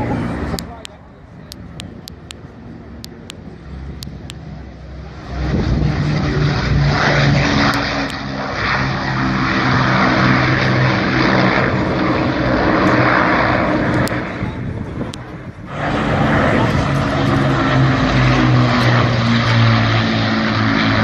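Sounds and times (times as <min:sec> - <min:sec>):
plane engine flying past: 0:00.0 - 0:21.0.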